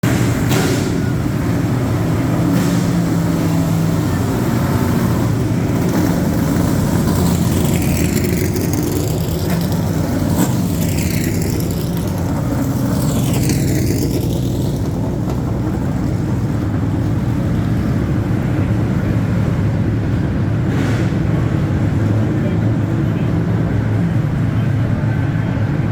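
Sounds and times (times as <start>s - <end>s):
stock car engines rumbling: 0.0s - 25.9s.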